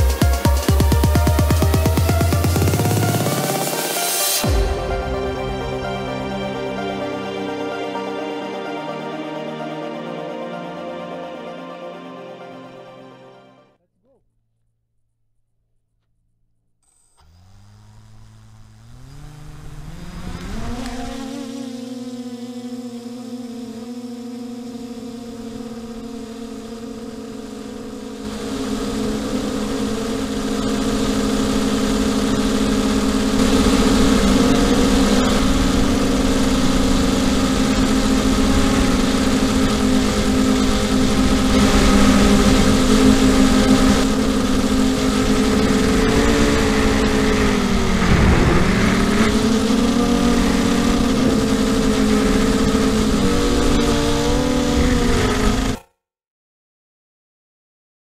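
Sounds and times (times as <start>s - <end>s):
drone propellers buzzing: 0.0s - 13.4s, 17.2s - 55.8s.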